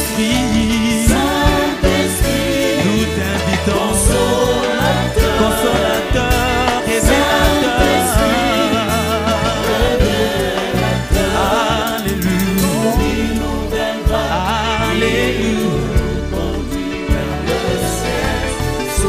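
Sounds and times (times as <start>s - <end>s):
congregation singing: 0.0s - 19.0s
low accompanying notes: 0.0s - 19.0s
woman singing lead: 0.0s - 19.0s.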